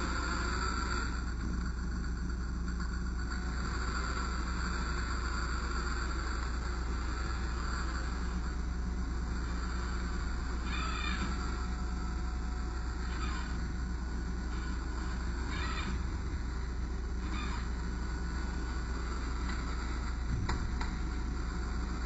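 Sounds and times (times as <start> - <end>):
model truck low rumble: 0.0 - 22.0.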